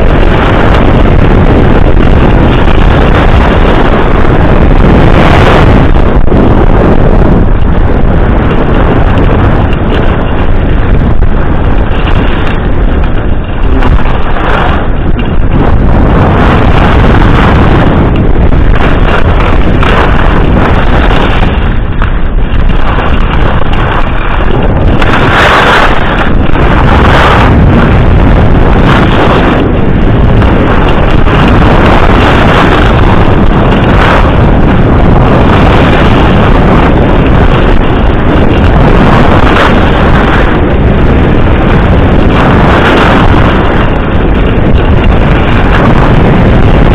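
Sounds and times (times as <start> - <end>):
wind buffeting microphone: 0.0 - 46.9
skis scraping on snow: 8.6 - 46.5.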